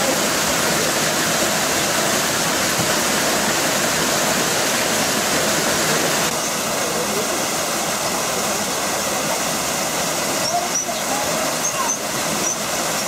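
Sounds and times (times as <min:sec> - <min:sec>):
water flowing over rocks: 0:00.0 - 0:13.0.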